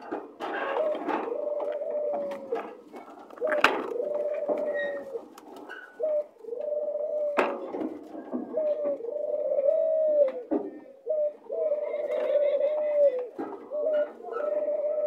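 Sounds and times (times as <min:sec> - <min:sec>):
doves cooing: 0:00.0 - 0:15.0.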